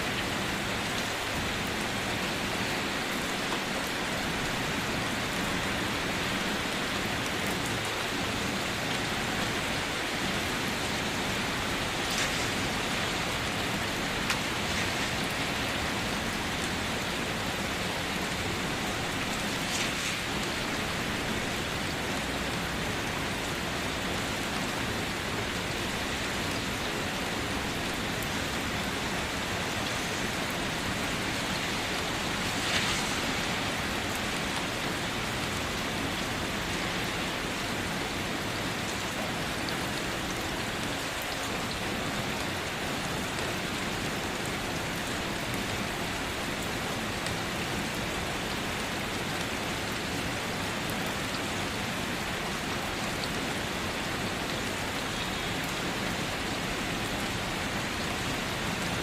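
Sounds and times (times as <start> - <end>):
rain on a car: 0.0 - 59.0.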